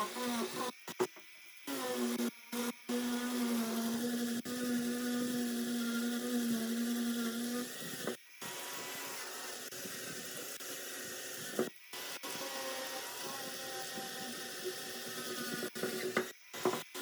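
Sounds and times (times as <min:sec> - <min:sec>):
power tool motor humming: 0:00.0 - 0:01.1, 0:01.7 - 0:17.0
noisy whirring: 0:00.0 - 0:17.0.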